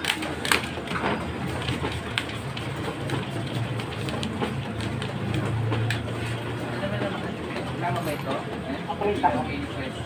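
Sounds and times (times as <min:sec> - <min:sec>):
photocopier running: 0:00.0 - 0:10.0.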